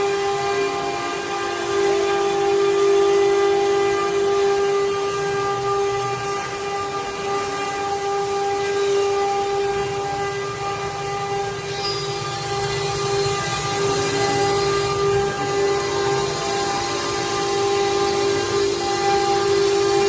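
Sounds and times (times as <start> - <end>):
router spindle high whine: 0.0 - 20.0.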